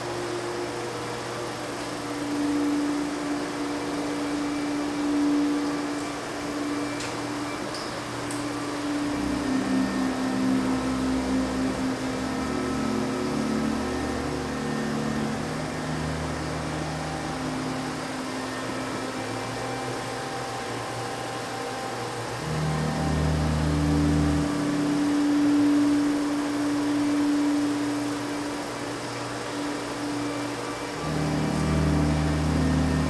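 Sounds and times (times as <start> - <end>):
low electronic drones: 0.0 - 33.0
steady hiss: 0.0 - 33.0.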